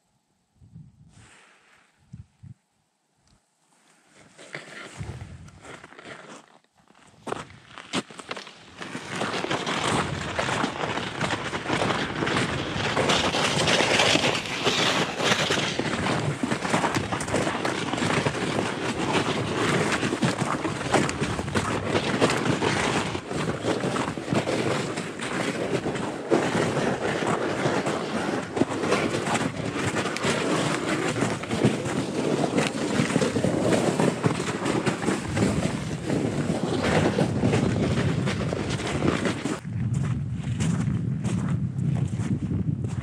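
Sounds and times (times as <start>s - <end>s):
wind buffeting microphone: 5.0s - 5.6s, 9.2s - 43.0s.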